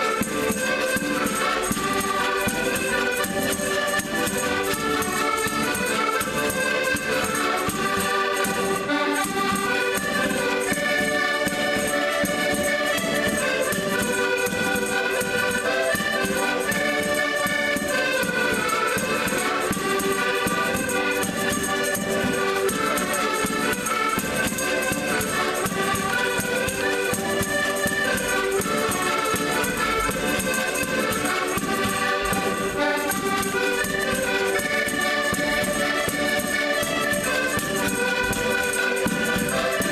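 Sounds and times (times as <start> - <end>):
concertinas playing in unison: 0.0 - 39.9.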